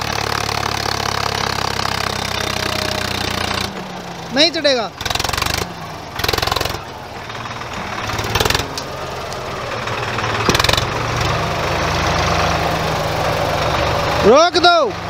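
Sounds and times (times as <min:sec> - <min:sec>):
tractor engine labouring: 0:00.0 - 0:15.0.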